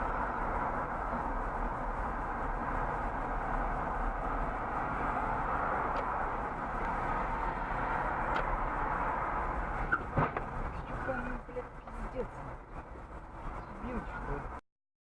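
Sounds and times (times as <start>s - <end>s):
car road and engine noise: 0.0s - 14.6s.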